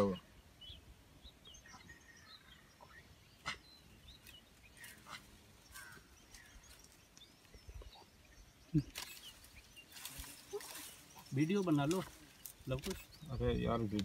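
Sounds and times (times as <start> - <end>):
faint bird chirps: 0.0 - 13.9.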